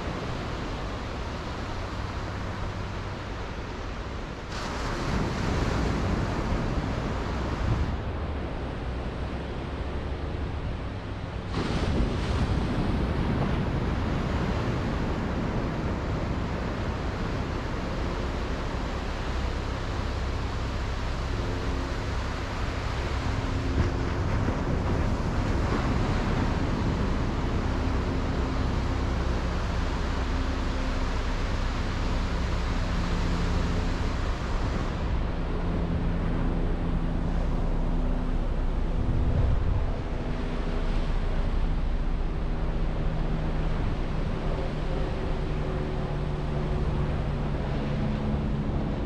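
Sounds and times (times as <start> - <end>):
ocean waves breaking on beach: 0.0 - 49.0.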